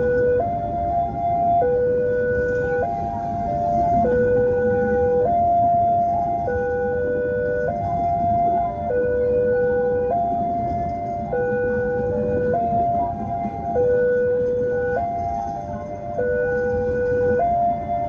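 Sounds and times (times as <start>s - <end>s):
level-crossing two-tone alarm: 0.0s - 18.0s
street noise rumble: 0.0s - 18.0s.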